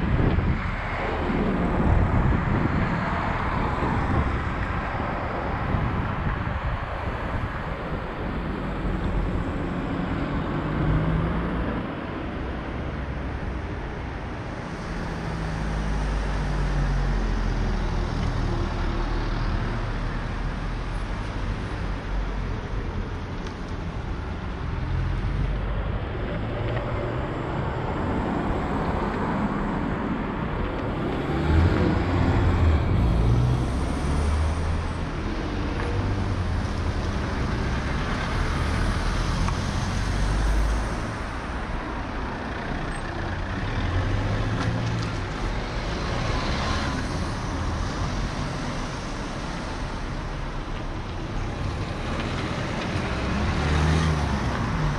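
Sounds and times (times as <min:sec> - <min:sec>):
cars passing at low speed: 0:00.0 - 0:54.9
tyres on the road: 0:00.0 - 0:54.9.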